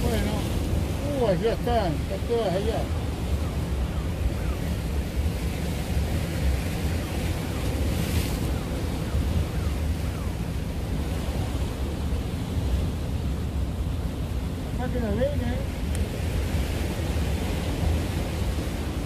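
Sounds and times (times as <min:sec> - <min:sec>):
surf washing against concrete: 0:00.0 - 0:04.0, 0:04.8 - 0:19.0
wind rumbling on microphone: 0:00.0 - 0:19.0.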